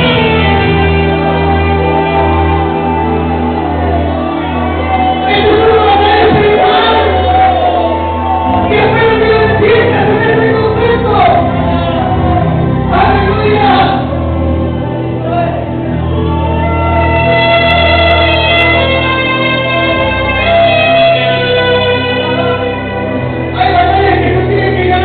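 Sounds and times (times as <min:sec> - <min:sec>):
sustained instrumental chords: 0:00.0 - 0:25.0.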